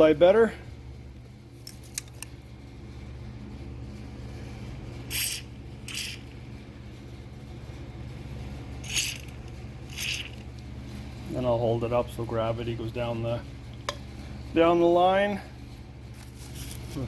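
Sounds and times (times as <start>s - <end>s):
low hum: 0.6s - 14.6s.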